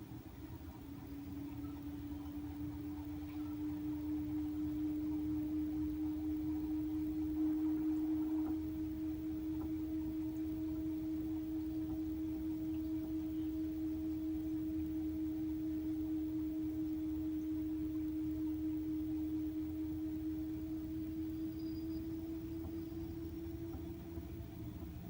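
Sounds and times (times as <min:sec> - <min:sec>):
washing machine spin whine: 0:00.0 - 0:25.0.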